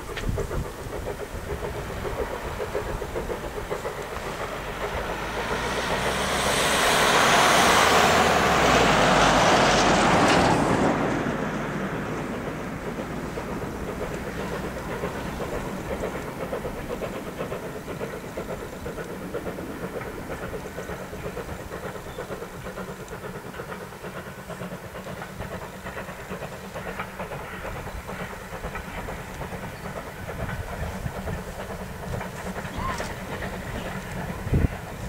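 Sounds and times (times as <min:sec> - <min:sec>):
locomotive exhaust: 0:00.0 - 0:35.0
steam hiss: 0:00.0 - 0:35.0
wheels clattering on rails: 0:00.0 - 0:35.0.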